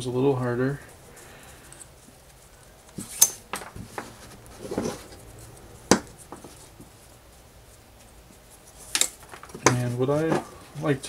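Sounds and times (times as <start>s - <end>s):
cord rustling: 0.0s - 11.0s.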